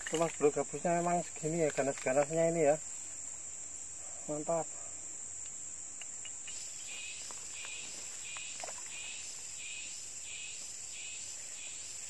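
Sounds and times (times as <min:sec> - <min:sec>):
insect chirping: 0:00.0 - 0:12.0
insect high-pitched buzz: 0:00.0 - 0:12.0.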